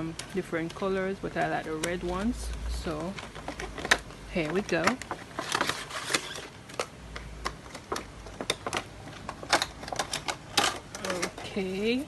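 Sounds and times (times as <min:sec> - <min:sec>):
plastic packaging clicking and crinkling: 0:00.0 - 0:12.0.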